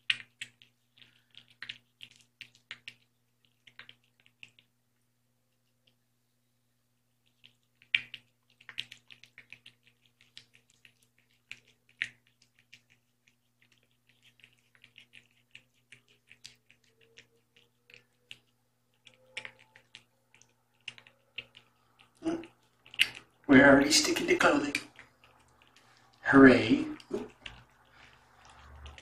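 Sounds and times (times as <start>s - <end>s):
cat chewing and lapping: 0.0s - 6.1s, 6.8s - 29.0s
faint steady low hum: 0.0s - 29.0s.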